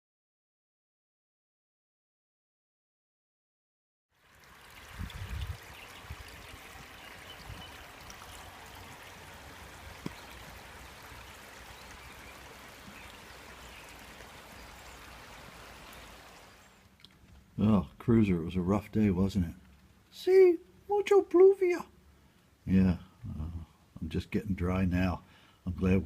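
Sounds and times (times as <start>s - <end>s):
steady rain falling: 4.2s - 26.0s.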